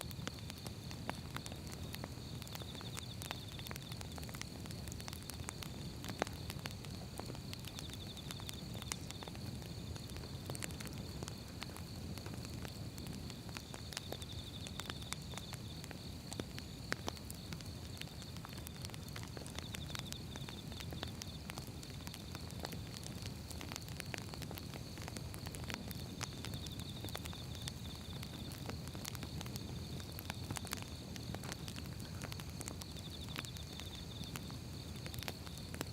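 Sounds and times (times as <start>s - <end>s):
firewood crackling and popping: 0.0s - 35.9s
low rumble of flames: 0.0s - 35.9s.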